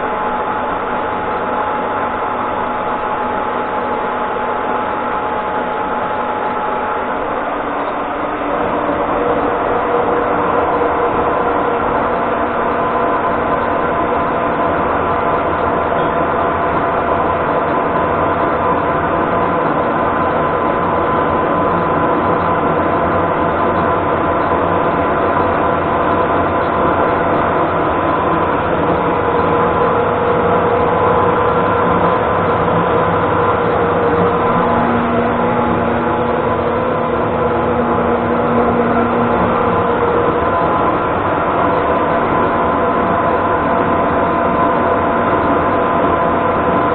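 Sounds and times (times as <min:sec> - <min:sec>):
metal lathe running: 0:00.0 - 0:46.9
gear whine: 0:05.6 - 0:46.9.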